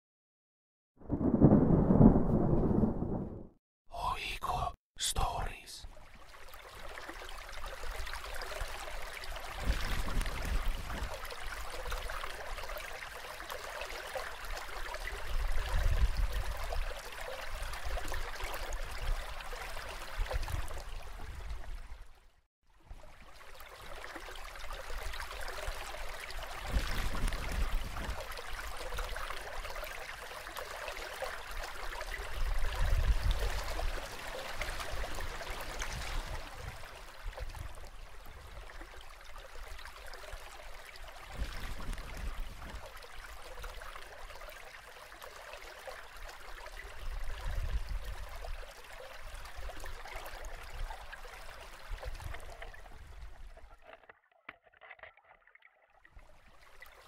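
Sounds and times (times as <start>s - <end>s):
stream splashing over stones: 6.0s - 22.0s, 22.8s - 57.0s.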